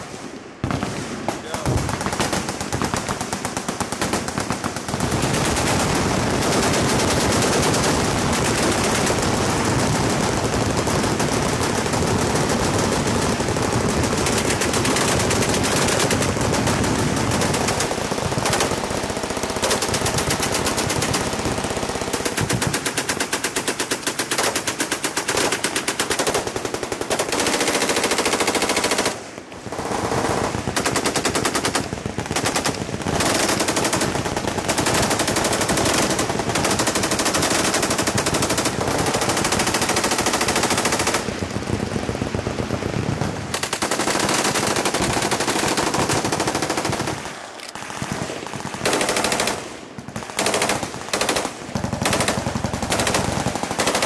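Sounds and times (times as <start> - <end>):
machine guns firing automatic bursts: 0.0 - 54.0.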